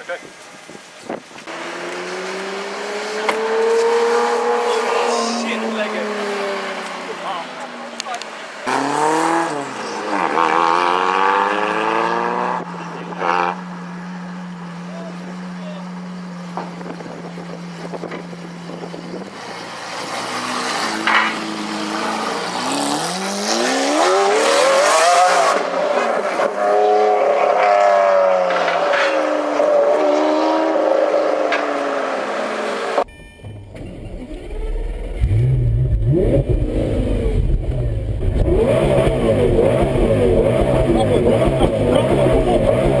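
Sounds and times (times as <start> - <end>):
car engine revving: 1.4 - 33.1, 33.8 - 43.0.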